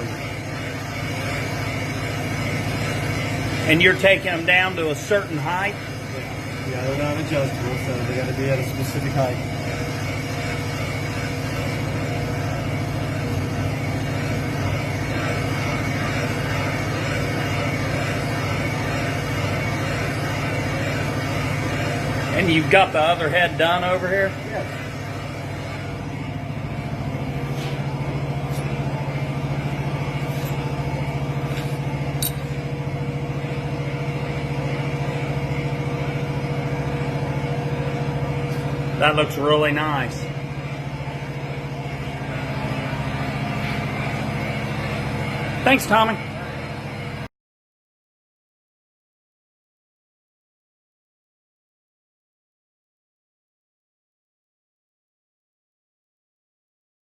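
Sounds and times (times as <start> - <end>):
motor pulsing hum: 0.0 - 47.3
thin steady whine: 0.0 - 47.3
valve seat cutting machine running: 0.0 - 47.3.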